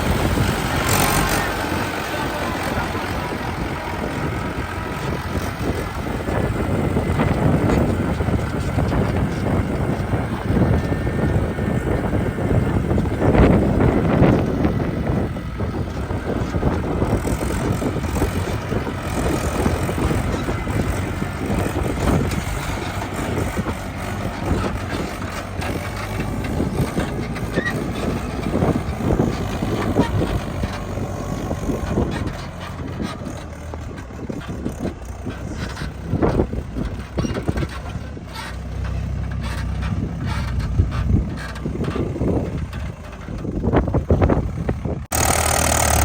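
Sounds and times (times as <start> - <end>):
diesel engines running: 0.0 - 46.0
knocks and clatters: 0.0 - 46.0.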